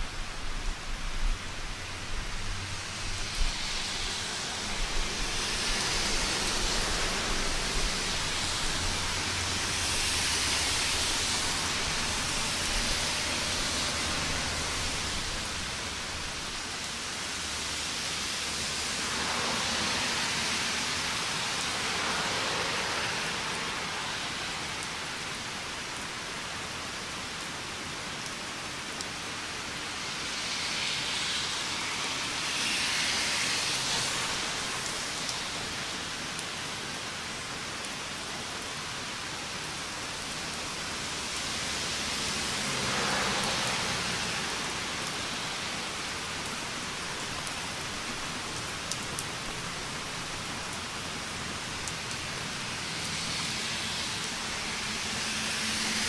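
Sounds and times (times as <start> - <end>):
light ticks of raindrops: 0.0 - 56.0
steady rain hiss: 0.0 - 56.0.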